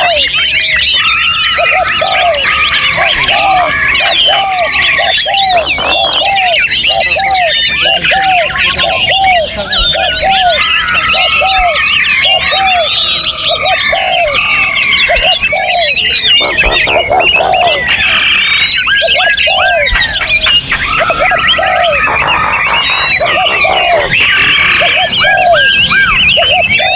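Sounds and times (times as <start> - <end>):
songbirds singing: 0.0 - 26.9.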